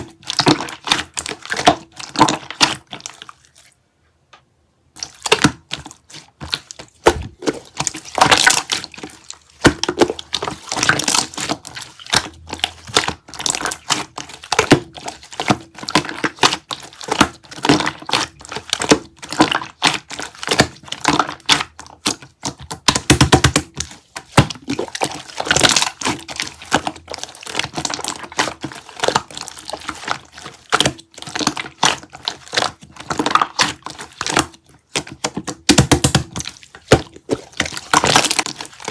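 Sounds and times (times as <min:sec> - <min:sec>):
sprinkles crunching and crackling: 0:05.0 - 0:38.9.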